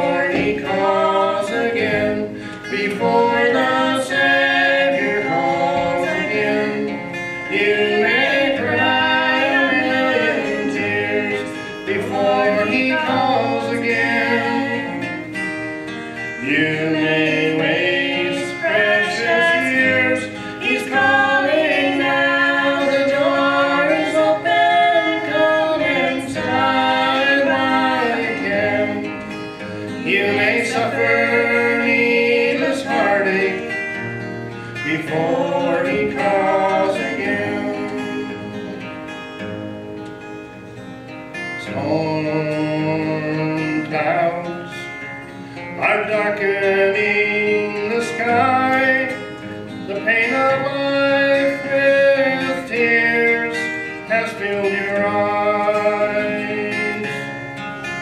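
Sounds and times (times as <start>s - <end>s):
person singing gospel song: 0.0s - 39.0s, 41.6s - 44.9s, 45.6s - 57.6s
acoustic guitar: 0.0s - 58.0s.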